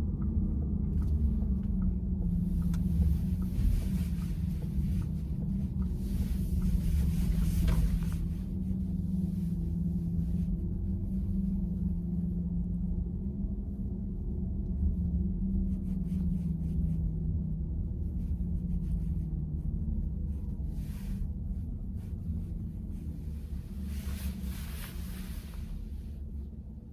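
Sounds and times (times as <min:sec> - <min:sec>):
road and tyre rumble: 0:00.0 - 0:26.9
steady low hum: 0:00.0 - 0:26.9.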